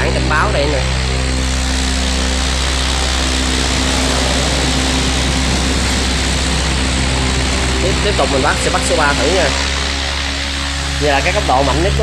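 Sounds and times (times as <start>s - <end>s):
fan motor low hum: 0.0s - 12.0s
fan air rushing: 1.2s - 12.0s.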